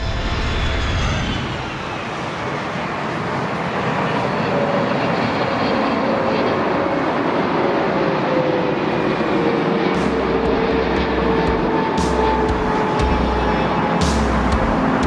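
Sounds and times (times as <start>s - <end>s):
engine fan tone: 0.0s - 15.0s
jet airliner engines roaring: 0.0s - 15.0s.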